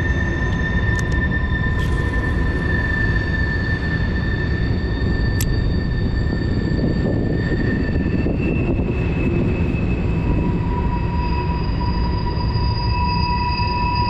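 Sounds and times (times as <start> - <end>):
high squealing tones: 0.0 - 14.0.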